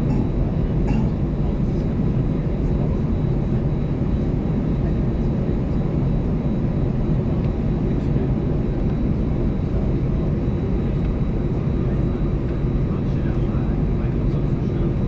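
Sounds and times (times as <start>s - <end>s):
aircraft engine rumble in cabin: 0.0s - 15.0s.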